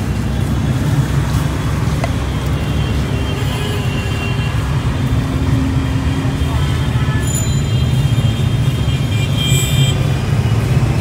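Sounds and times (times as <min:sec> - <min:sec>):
road traffic rumble: 0:00.0 - 0:11.0
vehicle engines running: 0:00.0 - 0:11.0.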